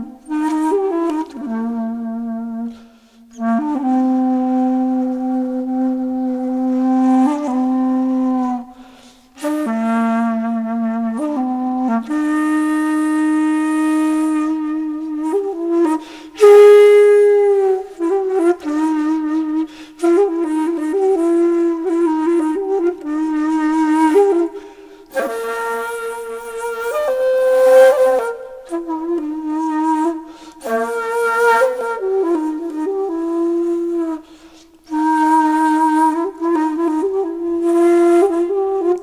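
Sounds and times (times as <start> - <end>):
solo flute slow melody: 0.0 - 39.0.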